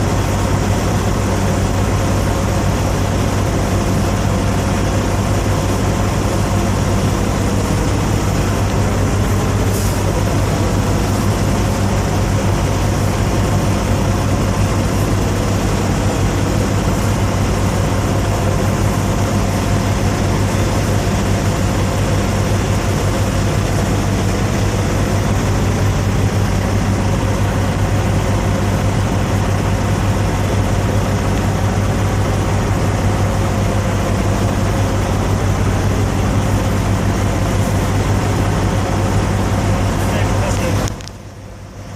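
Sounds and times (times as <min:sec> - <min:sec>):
truck engines idling: 0:00.0 - 0:41.9.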